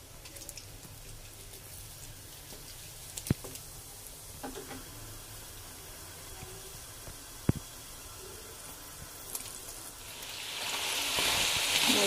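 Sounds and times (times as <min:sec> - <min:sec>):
fries sizzling in hot oil: 0:00.0 - 0:12.0.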